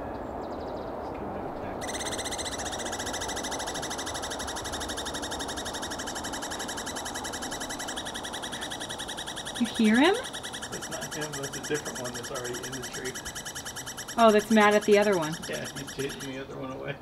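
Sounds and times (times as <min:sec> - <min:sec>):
squirrel trilling rattle call: 0:01.8 - 0:16.5.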